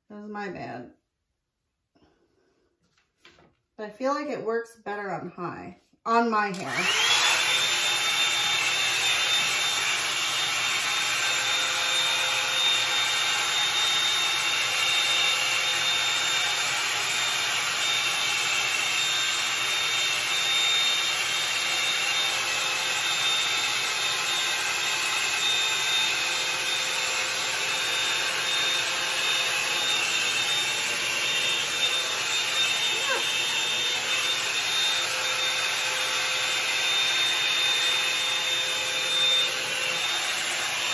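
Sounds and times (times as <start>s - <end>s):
hot-air brush blowing with motor whine: 6.5s - 40.9s.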